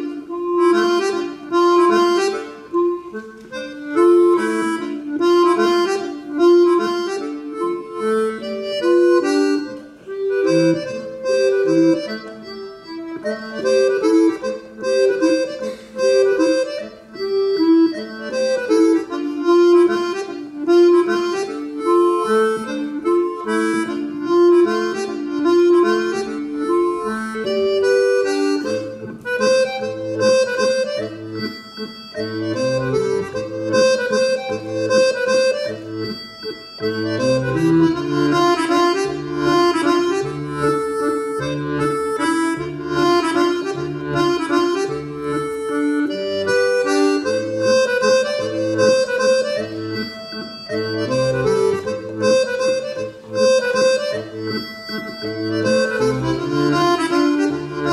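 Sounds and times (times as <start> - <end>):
folk band playing: 0.0 - 57.9.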